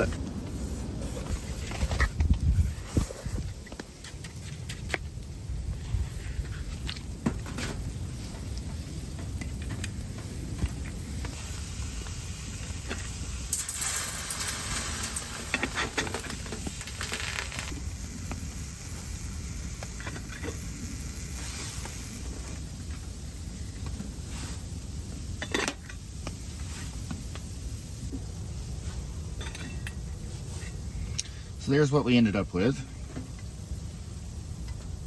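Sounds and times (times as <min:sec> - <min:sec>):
snow sizzling in hot pot: 0:00.0 - 0:35.0.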